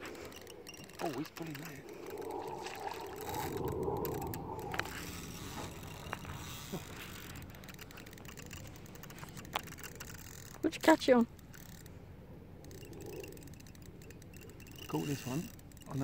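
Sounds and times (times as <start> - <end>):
fishing reel ticking rapidly: 0.0 - 12.0, 12.6 - 16.0.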